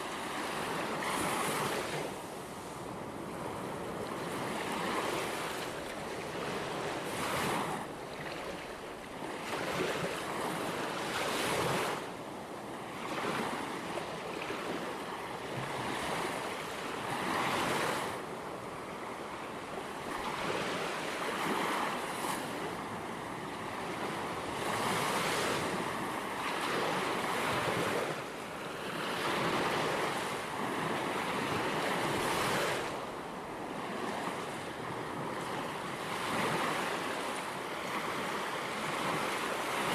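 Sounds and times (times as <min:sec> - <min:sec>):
ocean waves breaking on shore: 0:00.0 - 0:39.9
wind: 0:00.0 - 0:39.9.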